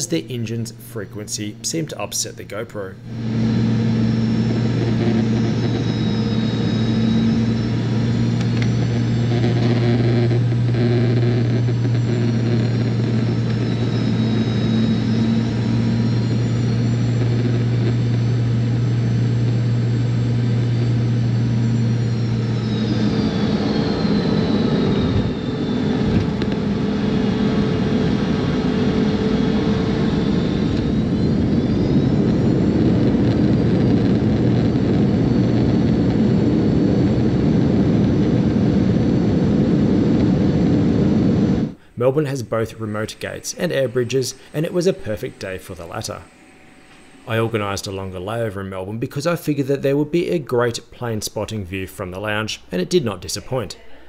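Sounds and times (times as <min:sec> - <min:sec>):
jet engine hum and whine: 0:00.0 - 0:54.0
airliner rolling on runway: 0:03.0 - 0:48.0.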